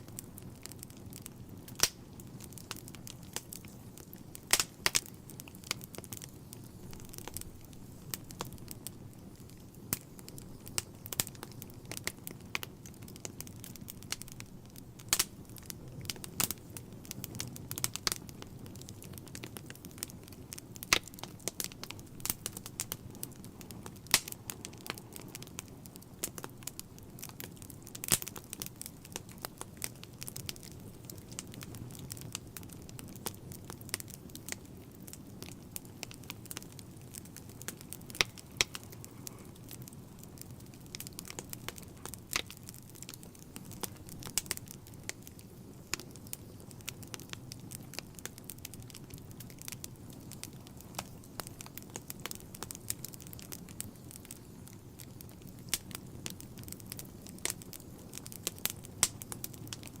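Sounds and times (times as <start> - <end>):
wood fire burning: 0.0 - 60.0.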